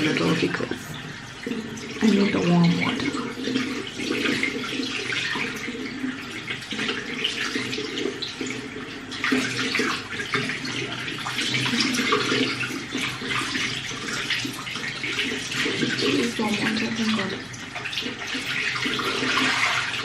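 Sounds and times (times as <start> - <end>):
tap water splashing into sink: 0.0 - 20.0.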